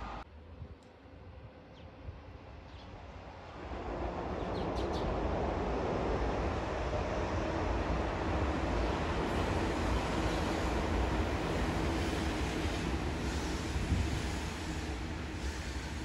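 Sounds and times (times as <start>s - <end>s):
train rumble: 3.0s - 16.0s.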